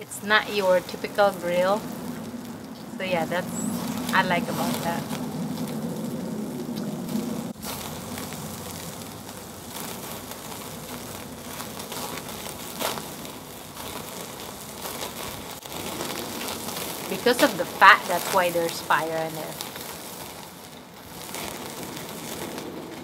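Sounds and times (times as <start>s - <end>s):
charcoal fire crackling: 0.0s - 23.0s
steak sizzling: 0.0s - 23.0s.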